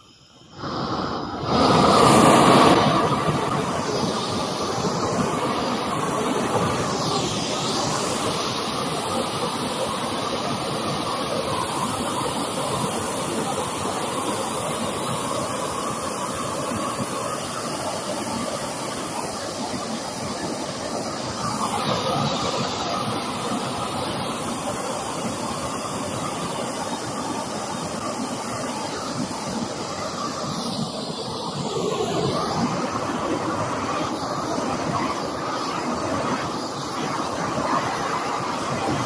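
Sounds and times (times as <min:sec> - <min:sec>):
gas torch flame hissing: 0:00.0 - 0:39.0.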